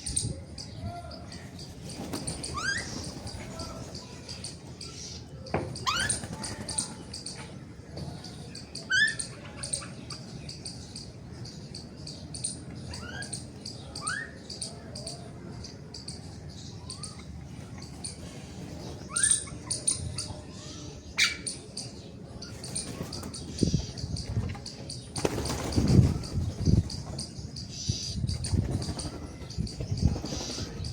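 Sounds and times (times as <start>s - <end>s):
sparrows chirping: 0.0s - 30.9s.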